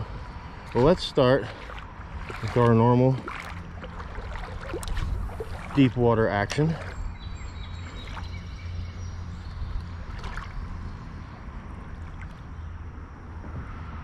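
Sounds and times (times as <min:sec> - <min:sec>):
creek water flowing: 0:00.0 - 0:12.8
low steady rumble: 0:00.0 - 0:13.7.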